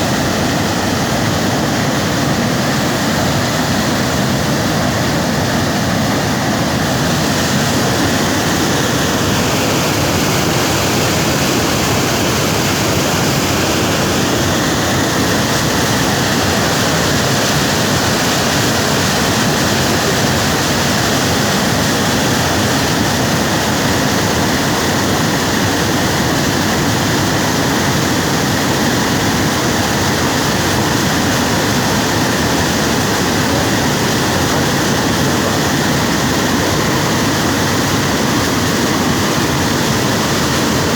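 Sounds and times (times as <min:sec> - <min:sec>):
water rushing through dam: 0:00.0 - 0:40.9.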